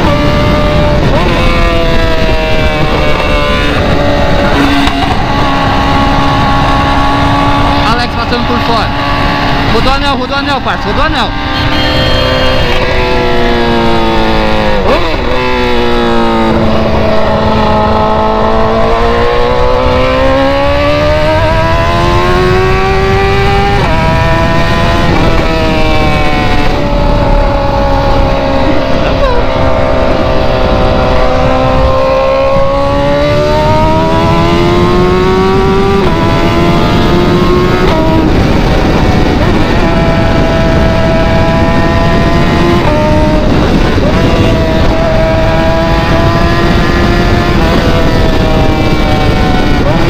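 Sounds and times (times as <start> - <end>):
car engine revving through exhaust: 0.0 - 50.0.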